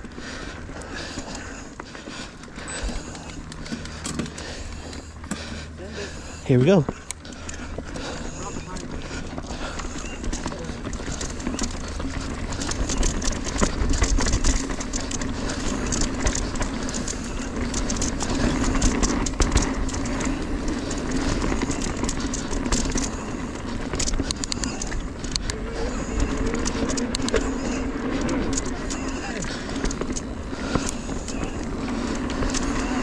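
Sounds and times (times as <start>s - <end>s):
bike rattling clicks and knocks: 0.0s - 33.0s
steady low hum: 0.0s - 33.0s
tyres rolling over gravel: 0.0s - 33.0s.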